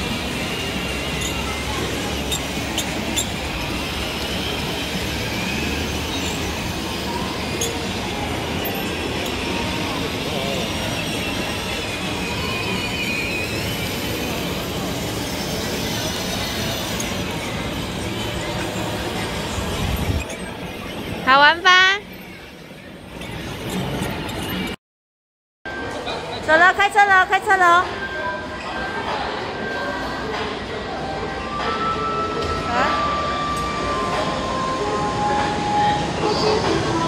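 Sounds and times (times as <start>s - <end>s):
mechanical hum: 0.0s - 24.8s, 25.7s - 37.0s.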